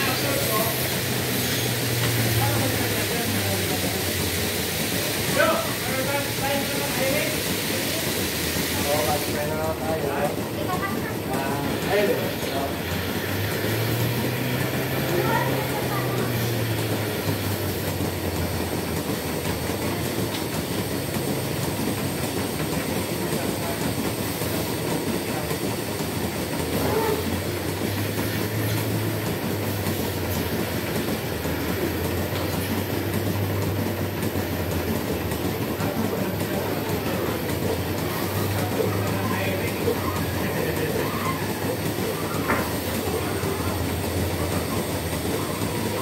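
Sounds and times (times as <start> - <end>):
machinery rumble and clatter: 0.0 - 46.0.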